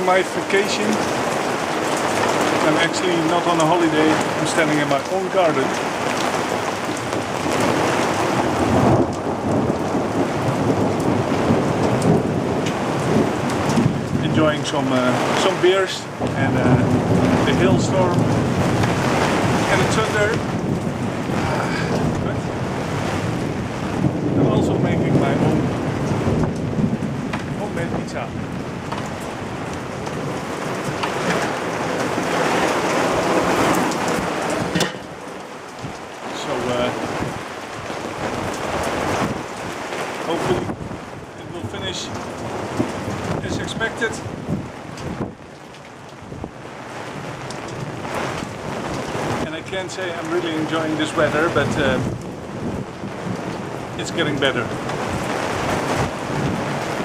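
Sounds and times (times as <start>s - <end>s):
low rumble of thunder: 0.0s - 45.6s, 46.2s - 57.0s
heavy rain and hail: 0.0s - 57.0s.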